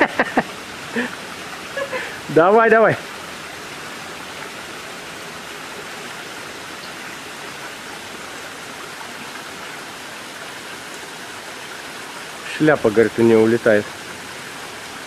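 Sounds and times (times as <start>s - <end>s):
stream trickling over rocks: 0.0s - 15.0s.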